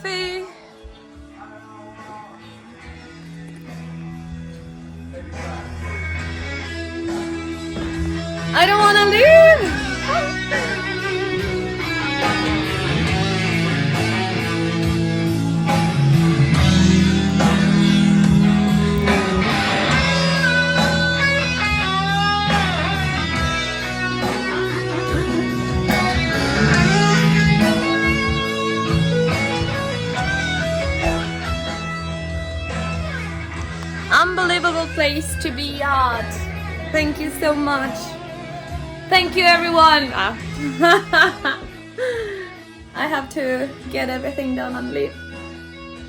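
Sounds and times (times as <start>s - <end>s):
guitar-led background music: 0.0s - 46.0s.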